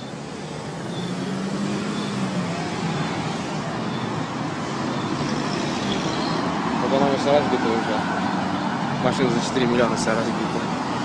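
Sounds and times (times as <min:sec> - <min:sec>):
cars driving through intersection: 0:00.0 - 0:11.0.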